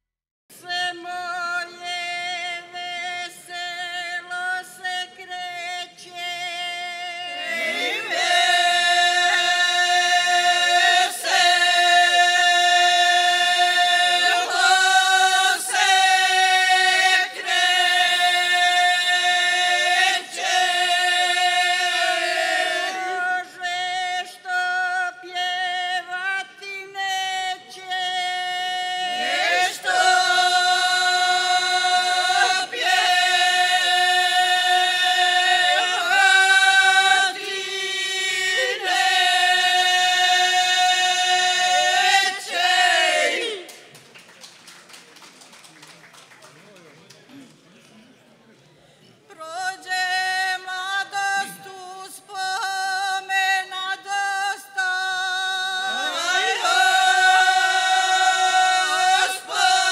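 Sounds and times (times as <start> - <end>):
group singing a cappella: 0.6 - 43.9, 49.4 - 59.9.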